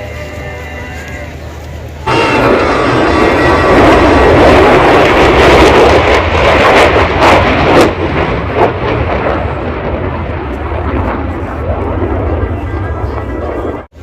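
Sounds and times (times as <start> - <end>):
low-flying airplane passing: 0.0 - 14.0.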